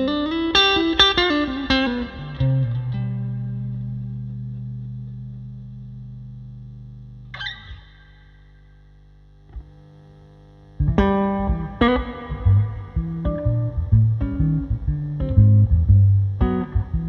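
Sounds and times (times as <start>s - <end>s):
electric guitar chord ringing: 0.0s - 8.9s, 10.8s - 17.0s
faint amp hum: 0.0s - 17.0s.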